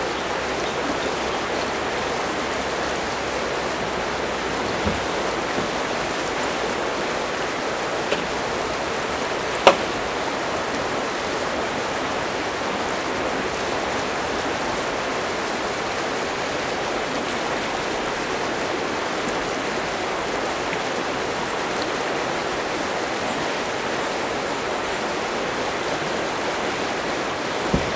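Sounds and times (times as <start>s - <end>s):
river water flowing: 0.0s - 27.9s.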